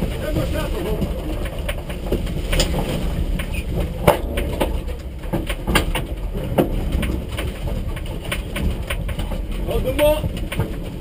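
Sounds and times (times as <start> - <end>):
car body knocking and clicking: 0.0 - 11.0
low engine rumble: 0.0 - 11.0.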